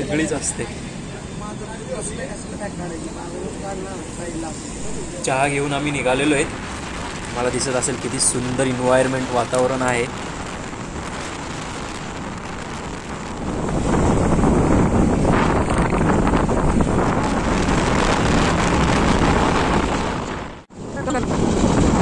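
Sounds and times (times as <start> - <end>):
road and engine noise: 0.0 - 22.0
wind rushing over microphone: 0.0 - 22.0.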